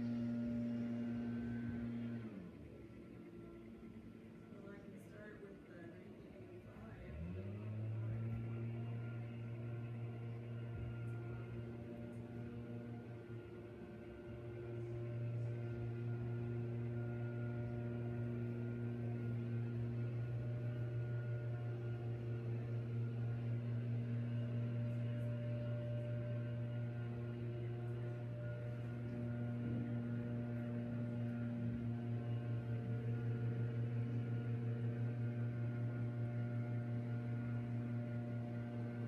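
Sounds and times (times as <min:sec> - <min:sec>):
distant leaf blower engine: 0:00.0 - 0:39.0.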